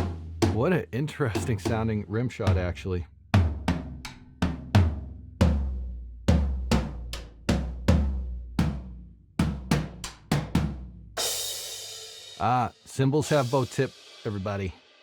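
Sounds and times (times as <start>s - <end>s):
tom drum strikes: 0.0s - 2.8s, 3.4s - 12.6s.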